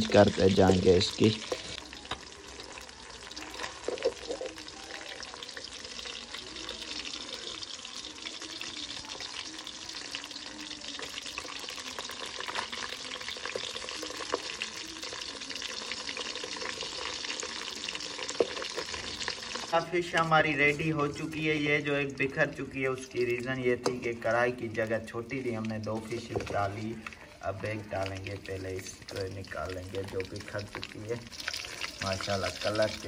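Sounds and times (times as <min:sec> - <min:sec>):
fish sizzling in hot oil: 0:00.0 - 0:33.0.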